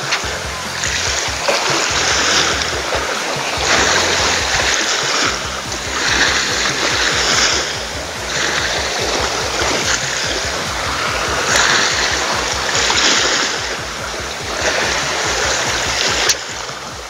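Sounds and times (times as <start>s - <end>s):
waves splashing on rocky shore: 0.0s - 17.0s.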